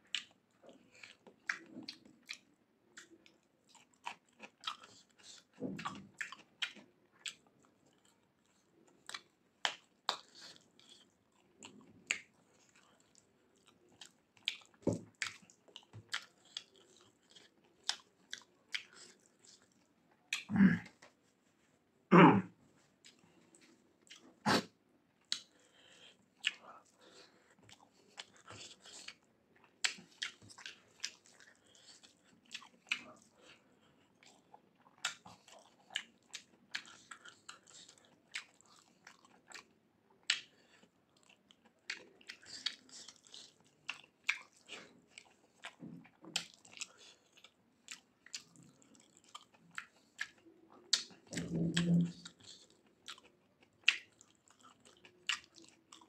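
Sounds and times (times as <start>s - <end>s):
person chewing food: 0.0s - 21.6s, 22.8s - 56.0s.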